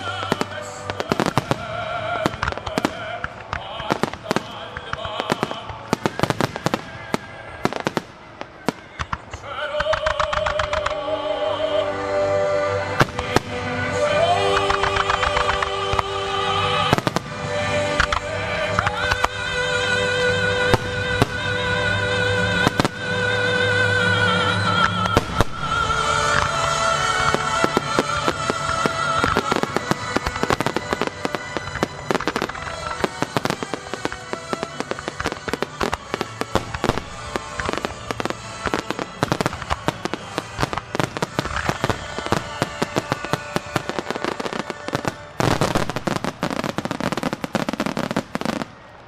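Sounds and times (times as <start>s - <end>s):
fireworks bursting: 0.0s - 49.0s
music: 0.0s - 49.0s.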